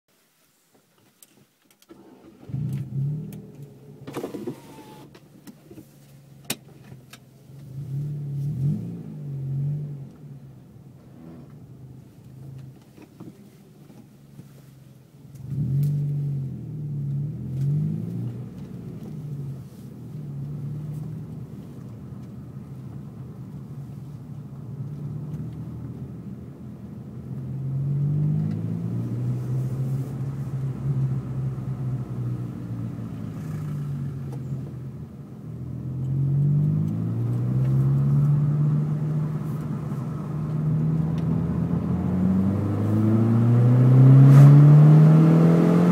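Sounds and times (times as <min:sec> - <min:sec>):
car engine revving: 0:02.0 - 0:05.1, 0:07.5 - 0:12.7, 0:15.3 - 0:23.9, 0:24.8 - 0:34.6, 0:35.4 - 0:45.9.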